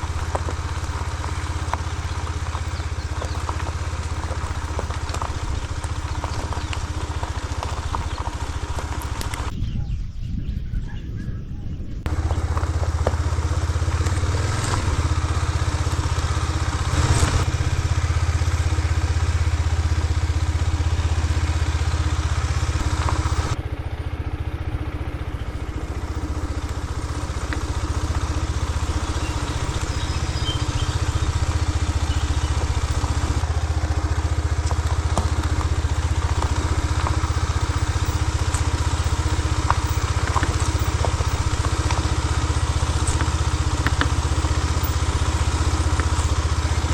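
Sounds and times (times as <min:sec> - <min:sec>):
motorcycle engine running: 0:00.0 - 0:10.6, 0:11.8 - 0:46.9.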